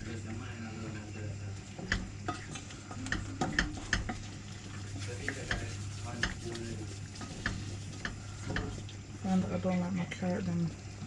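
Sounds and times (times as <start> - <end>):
faint sizzle: 0.0 - 11.0
steady low hum: 0.0 - 11.0.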